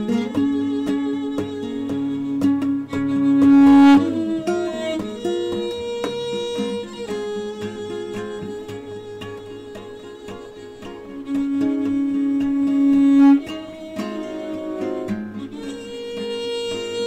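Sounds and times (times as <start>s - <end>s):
instrumental music with steady beat: 0.0s - 17.0s.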